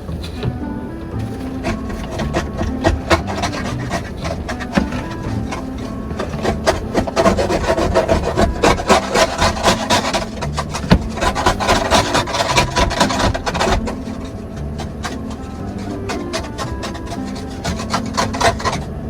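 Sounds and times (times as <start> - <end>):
scraper rasping on icy glass: 1.2 - 19.0.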